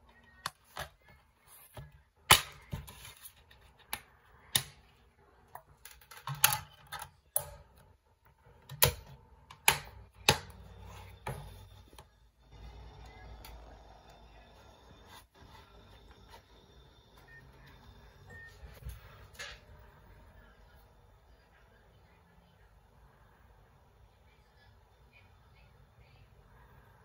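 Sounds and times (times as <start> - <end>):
faint low player hum: 0.0 - 27.0.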